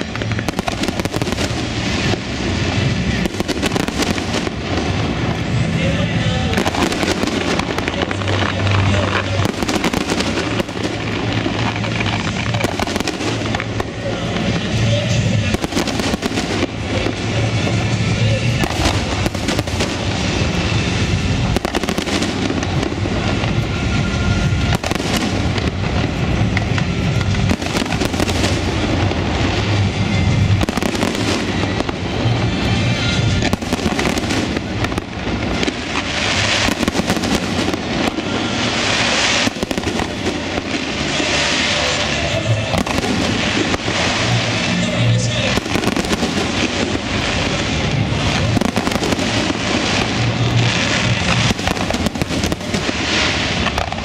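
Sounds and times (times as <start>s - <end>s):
fireworks bursts and crackling: 0.0s - 54.0s
music playing: 0.0s - 54.0s.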